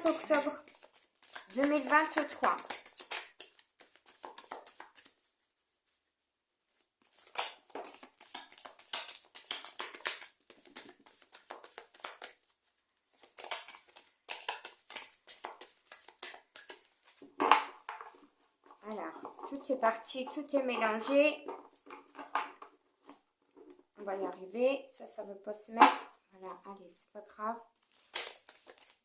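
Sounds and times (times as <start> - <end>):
cards shuffled by hand: 0.0 - 5.3, 6.7 - 23.8, 27.8 - 29.0.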